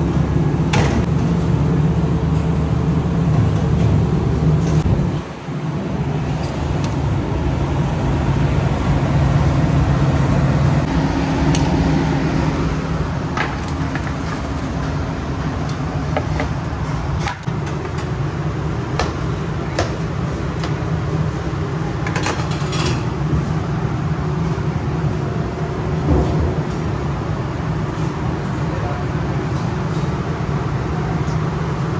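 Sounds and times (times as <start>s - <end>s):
kitchen ventilation: 0.0s - 31.9s
oven blowers humming: 0.0s - 31.9s.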